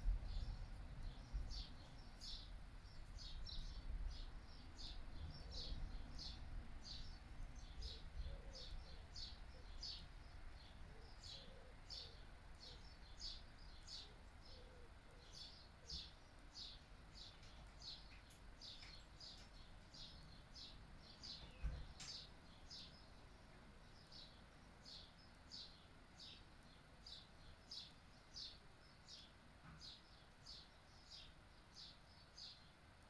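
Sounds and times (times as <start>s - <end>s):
faint songbird chirps: 0.0s - 33.0s
low rumble of breeze: 0.0s - 33.0s.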